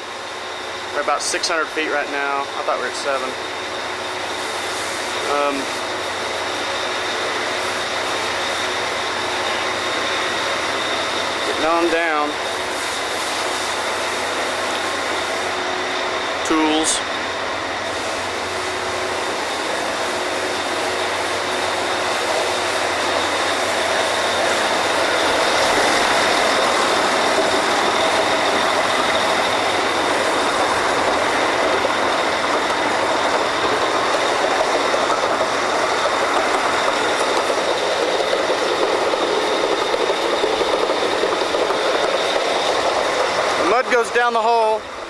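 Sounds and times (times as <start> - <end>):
drilling rig machinery running: 0.0 - 45.0
thin high whine: 0.0 - 45.0.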